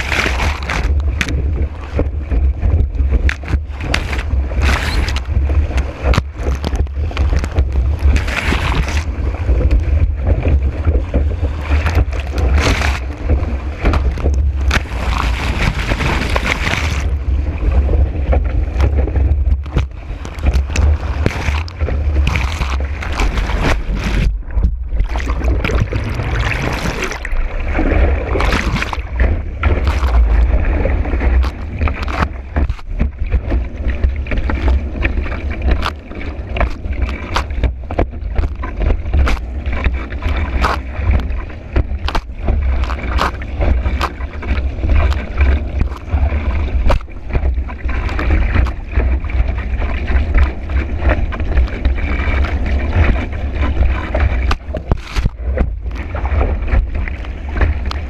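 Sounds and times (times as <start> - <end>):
board slapping water: 0.0 - 58.0
rushing water: 0.0 - 58.0.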